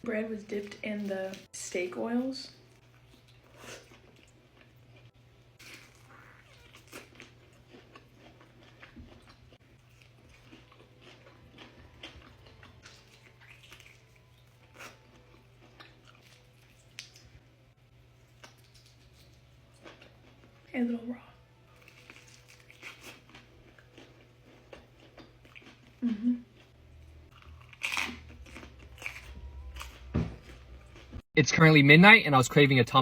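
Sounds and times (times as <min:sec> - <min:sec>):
person chewing food: 0:02.7 - 0:17.4, 0:18.2 - 0:20.6, 0:21.7 - 0:31.2.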